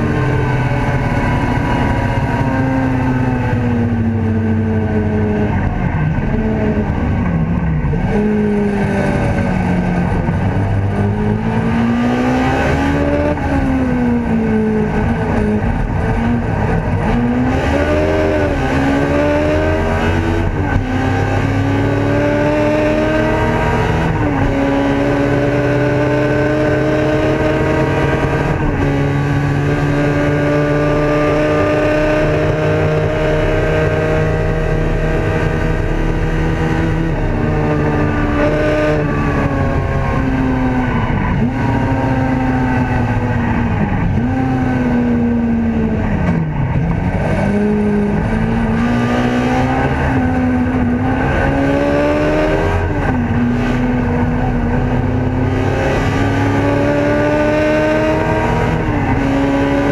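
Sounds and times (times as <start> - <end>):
race car engine revving through gears: 0.0 - 59.9.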